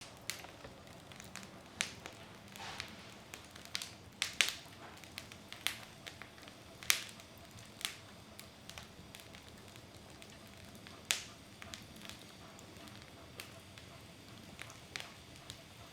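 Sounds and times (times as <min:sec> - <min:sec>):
faint fire hiss: 0:00.0 - 0:15.9
wood fire crackling: 0:00.0 - 0:15.9.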